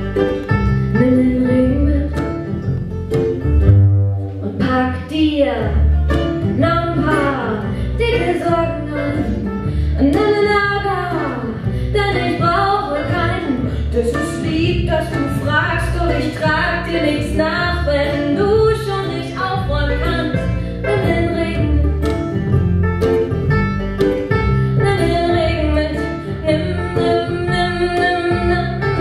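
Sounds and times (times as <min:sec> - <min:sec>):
acoustic guitar: 0:00.0 - 0:29.0
plucked double bass: 0:00.0 - 0:29.0
woman singing: 0:00.9 - 0:02.5, 0:04.4 - 0:22.1, 0:24.8 - 0:29.0.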